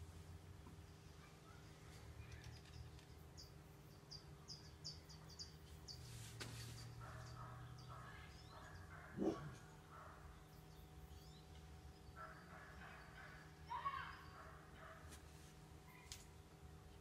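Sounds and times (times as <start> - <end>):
bird chirping: 0.8 - 15.0.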